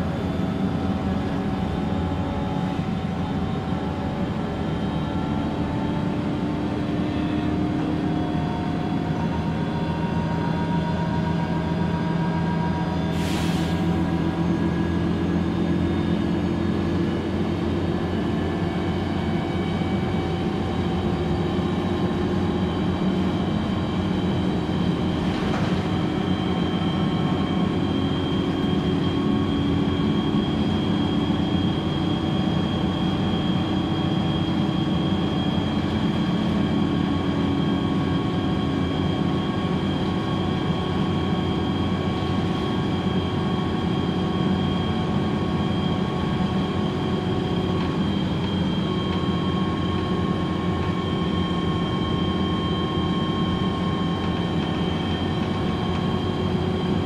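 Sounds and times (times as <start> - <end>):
bus engine drone: 0.0 - 57.0
steady high whine: 0.0 - 57.0.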